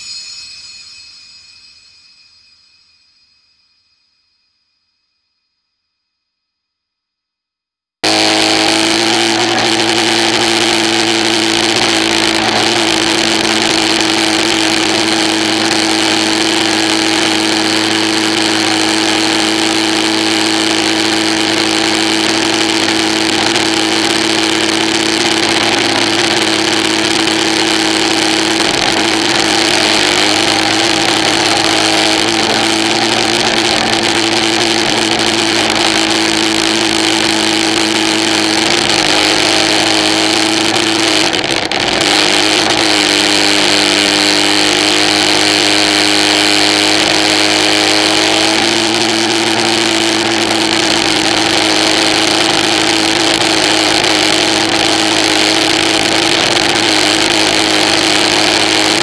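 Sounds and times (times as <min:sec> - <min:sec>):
engine droning steadily: 0:08.0 - 0:59.0.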